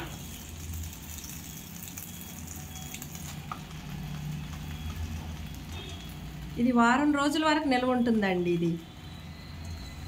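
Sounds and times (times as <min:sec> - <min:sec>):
leaves sizzling in hot oil: 0:00.0 - 0:10.0.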